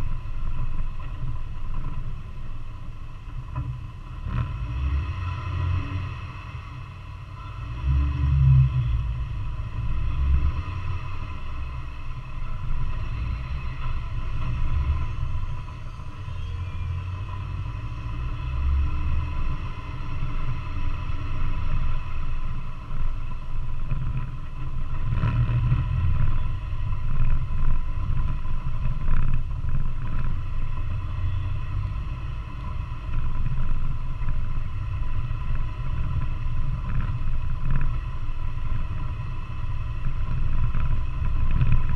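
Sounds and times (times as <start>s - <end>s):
engine and tyre rumble: 0.0s - 41.9s.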